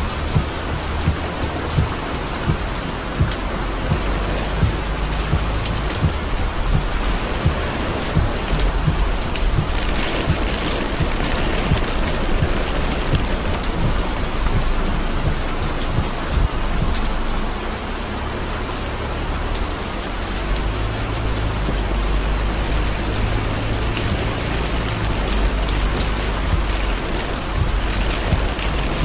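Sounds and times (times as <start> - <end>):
heavy rain on car roof: 0.0 - 29.0.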